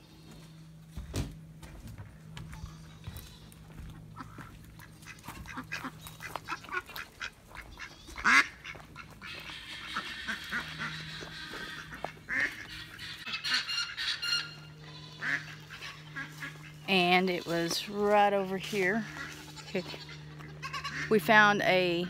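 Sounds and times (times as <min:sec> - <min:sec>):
ducks quacking and honking: 0:02.4 - 0:22.0.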